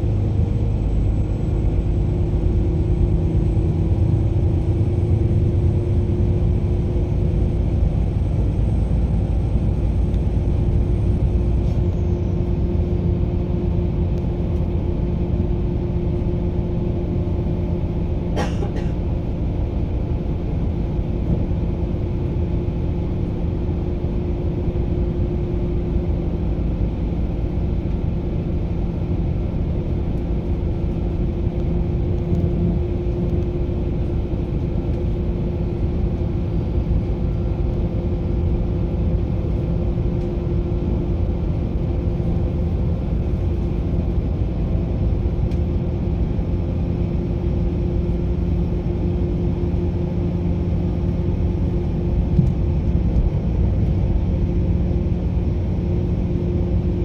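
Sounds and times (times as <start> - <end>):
moving vehicle rumble: 0.0 - 57.0.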